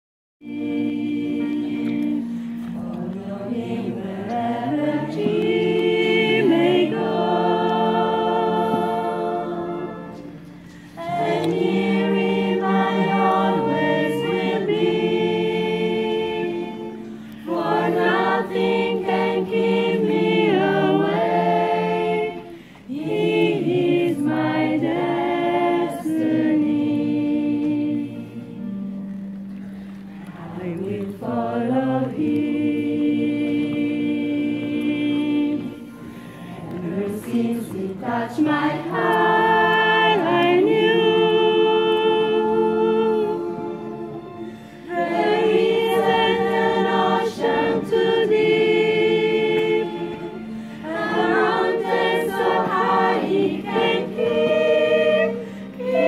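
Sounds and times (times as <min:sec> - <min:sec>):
women's choir singing: 0:00.4 - 0:56.0.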